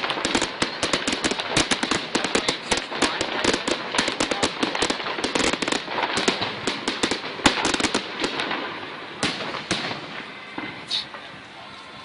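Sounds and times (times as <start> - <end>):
fireworks bangs and pops: 0.0 - 11.5.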